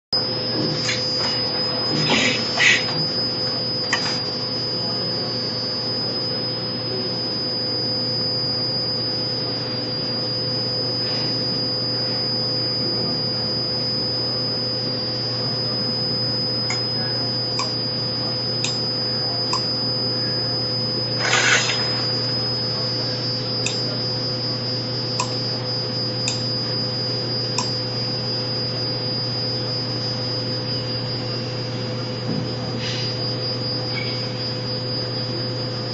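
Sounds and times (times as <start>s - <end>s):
electrical hum: 0.2s - 35.9s
high whine: 0.2s - 35.9s.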